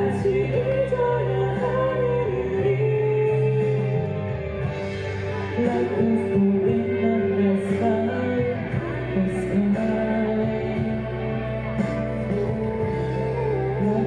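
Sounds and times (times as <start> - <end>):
live band sustained notes: 0.0 - 14.0.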